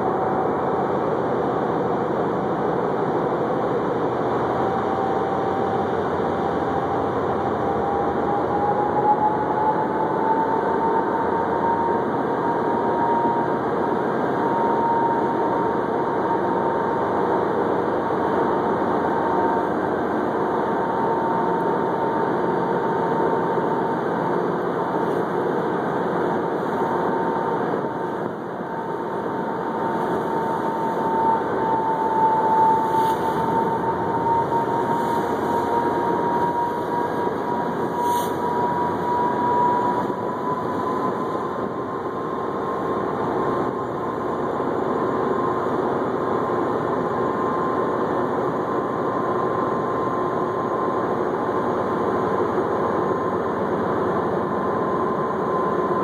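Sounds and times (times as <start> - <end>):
mechanical drone with high whine: 0.0 - 56.0.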